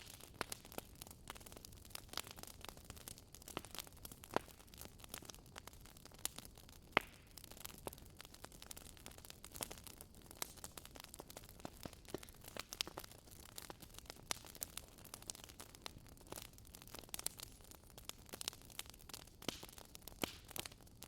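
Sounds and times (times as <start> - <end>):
faint fire hiss: 0.0 - 20.9
wood fire crackling: 0.0 - 21.0.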